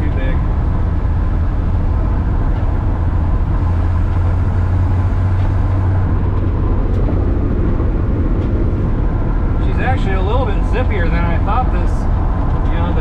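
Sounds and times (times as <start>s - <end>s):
truck engine cruising: 0.0s - 13.0s.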